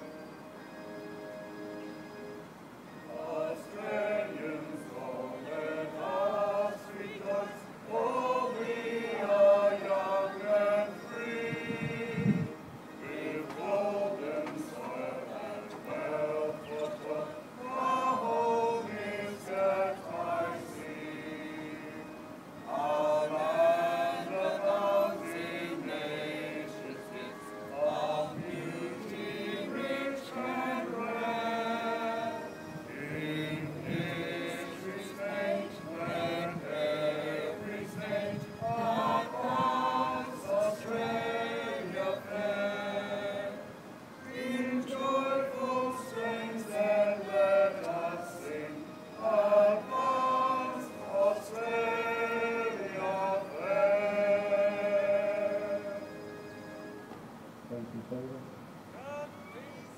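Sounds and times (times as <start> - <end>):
crowd singing together: 2.8 - 56.8.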